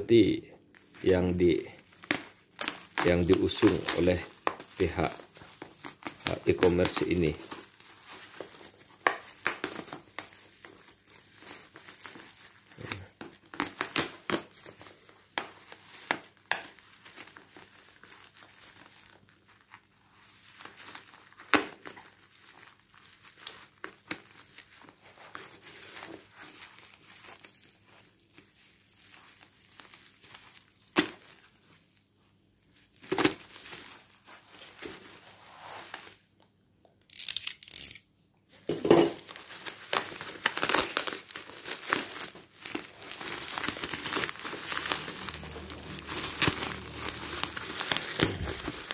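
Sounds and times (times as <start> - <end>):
bubble wrap crinkling: 0.0 - 36.4, 37.0 - 48.9.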